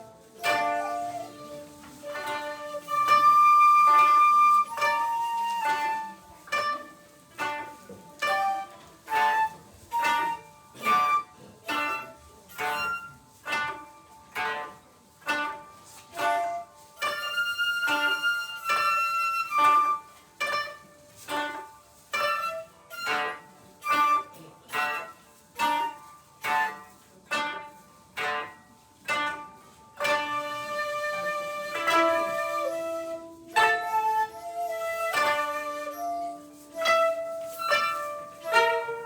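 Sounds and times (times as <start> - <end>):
koto plucked notes: 0.0 - 39.0
shakuhachi long held notes: 0.0 - 39.0.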